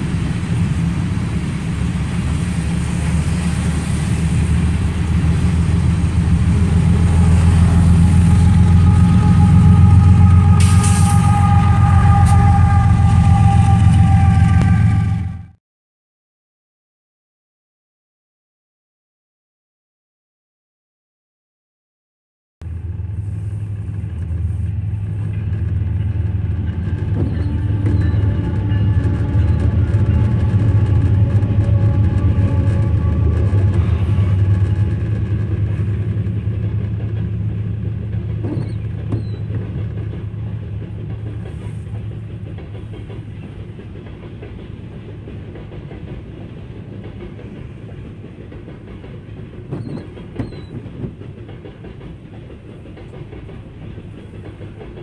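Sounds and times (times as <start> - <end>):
diesel locomotive drone: 0.0 - 15.6, 22.6 - 55.0
train wheels rumbling on rails: 0.0 - 15.6, 22.6 - 55.0.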